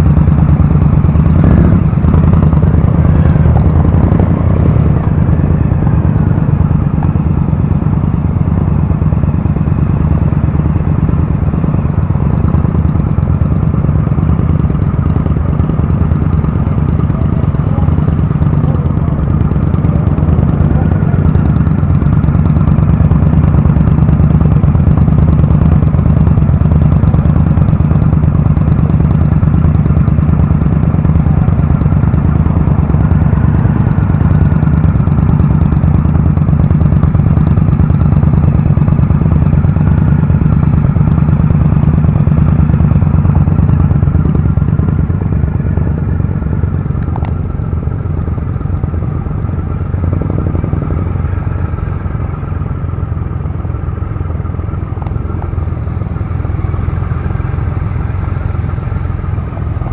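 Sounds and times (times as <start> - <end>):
motorcycle engine at low revs: 0.0 - 59.9.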